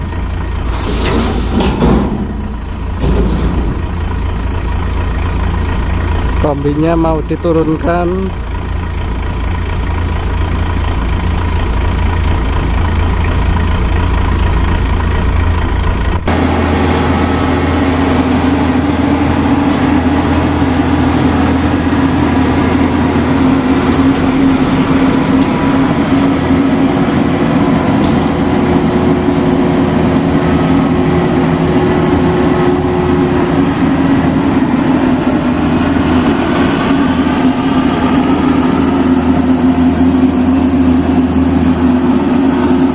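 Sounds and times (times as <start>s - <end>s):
diesel engine running: 0.0s - 42.9s
higher drone: 0.0s - 42.9s.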